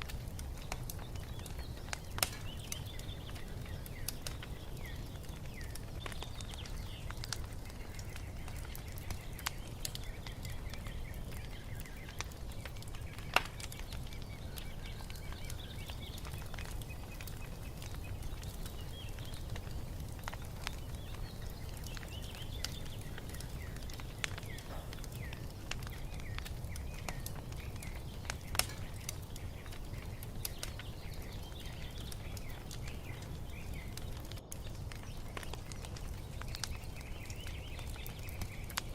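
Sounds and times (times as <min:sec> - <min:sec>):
small birds chirping: 0:00.0 - 0:38.9
wood fire crackling and popping: 0:00.0 - 0:38.9.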